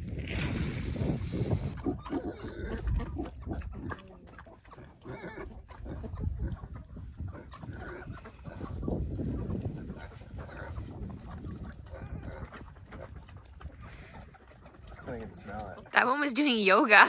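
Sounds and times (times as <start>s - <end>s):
pigs grunting: 1.7s - 16.0s.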